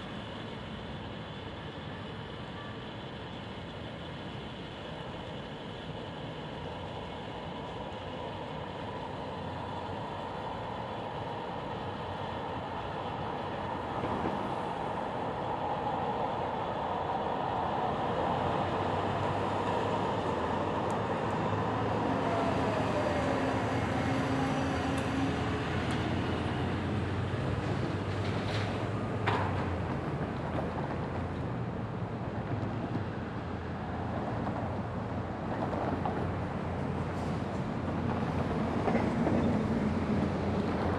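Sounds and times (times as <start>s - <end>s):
light rail train rumbling: 0.0s - 40.9s.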